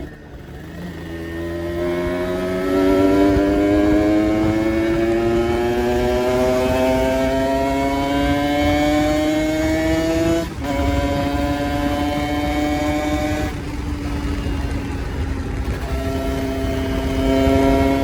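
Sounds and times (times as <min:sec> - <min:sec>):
two-stroke motorcycle engine running: 0:00.0 - 0:18.0.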